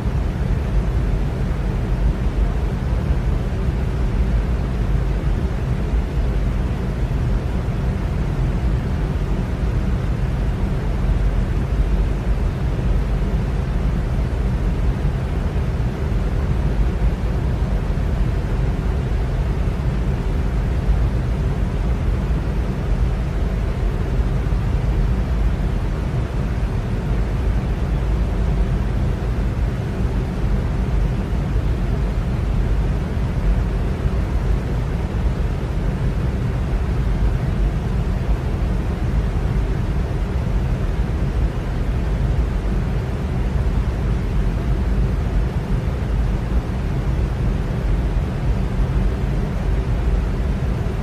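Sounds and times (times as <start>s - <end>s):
electric fan whooshing: 0.0s - 51.0s.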